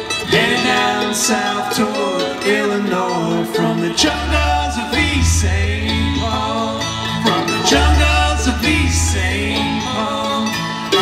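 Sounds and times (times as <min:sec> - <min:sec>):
bluegrass band playing: 0:00.0 - 0:11.0.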